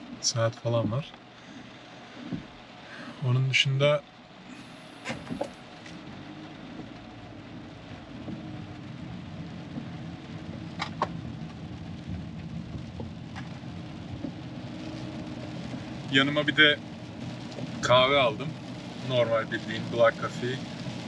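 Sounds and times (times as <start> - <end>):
car road and engine rumble: 0.0 - 21.0
rain hitting car: 0.0 - 21.0.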